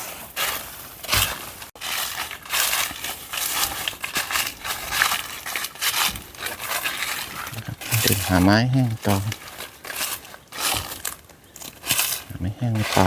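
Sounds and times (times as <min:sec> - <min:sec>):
footsteps crunching through dry leaves: 0:00.0 - 0:13.0.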